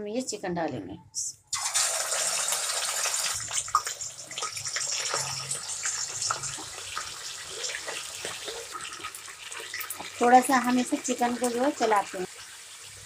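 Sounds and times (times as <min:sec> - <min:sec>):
chicken sizzling in hot oil: 0:01.5 - 0:13.0.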